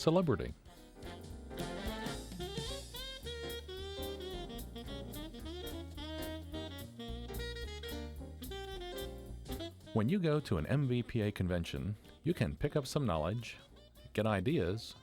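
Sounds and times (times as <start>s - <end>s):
jazz music with saxophone: 0.0s - 15.0s.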